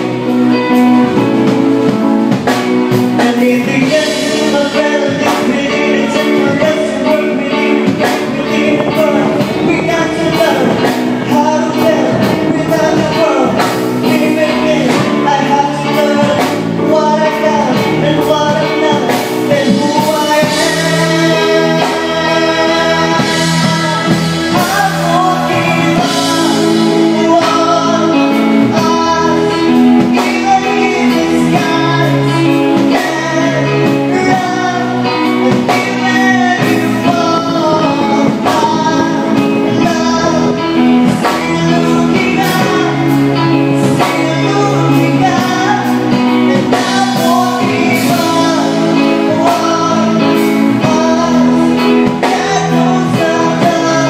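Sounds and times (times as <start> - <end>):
live band with keyboard: 0.0 - 54.0
person singing: 0.0 - 54.0.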